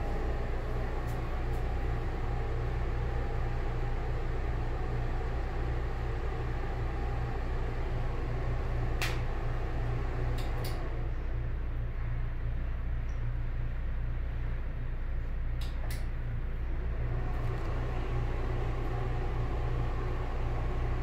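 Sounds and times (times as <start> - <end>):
exhaust fan humming: 0.0 - 21.0.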